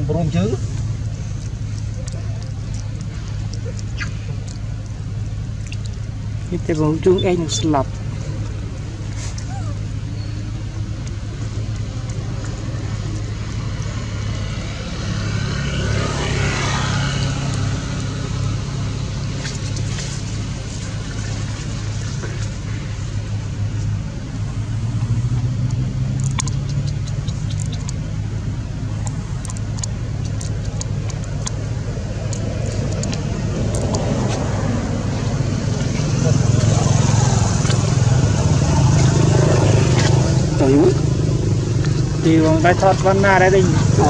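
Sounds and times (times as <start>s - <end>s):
low vehicle engine rumble: 0.0s - 44.0s.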